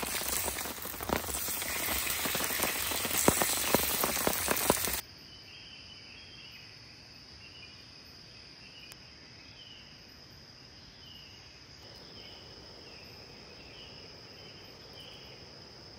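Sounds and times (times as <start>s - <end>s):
crickets trilling: 0.0s - 15.9s
short insect chirp: 0.0s - 15.9s.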